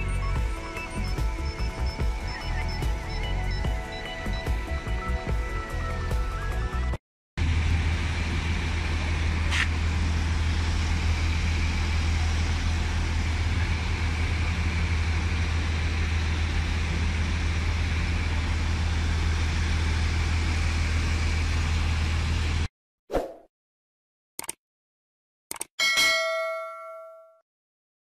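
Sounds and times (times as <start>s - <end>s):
bus engines idling: 0.0s - 22.7s.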